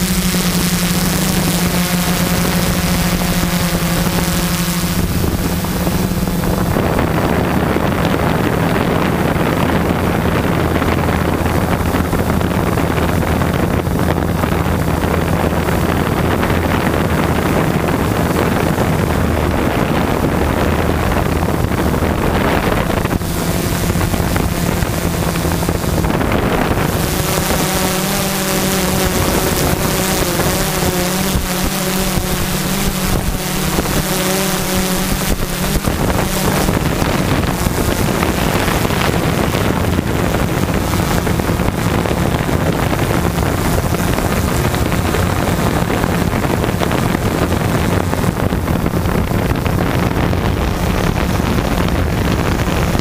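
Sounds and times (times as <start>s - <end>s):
drone motors buzzing: 0.0s - 53.0s
wind rush: 0.0s - 53.0s.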